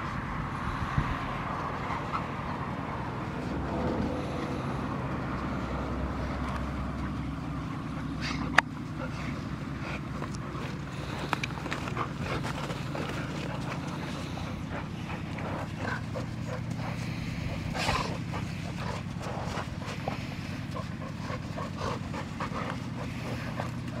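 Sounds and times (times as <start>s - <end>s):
dogs play-fighting vocal sounds: 1.4s - 24.0s.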